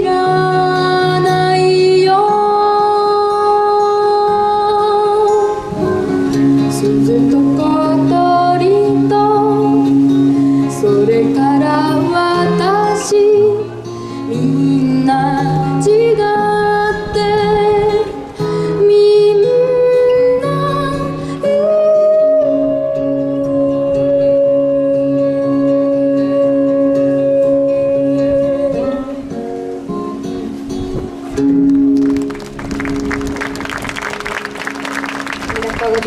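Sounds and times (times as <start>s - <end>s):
girl singing into microphone: 0.0s - 29.6s
acoustic guitar backing track: 0.0s - 36.0s.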